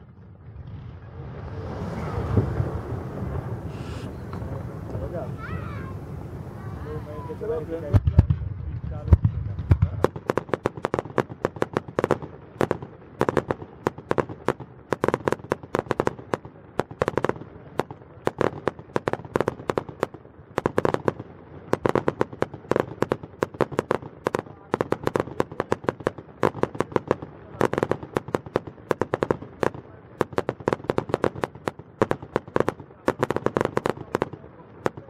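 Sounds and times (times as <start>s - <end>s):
fireworks bangs and pops: 0.0s - 35.0s.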